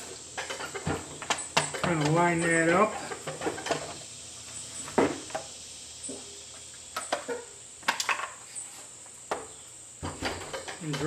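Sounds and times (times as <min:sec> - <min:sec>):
steady high-pitched whine: 0:00.0 - 0:11.0.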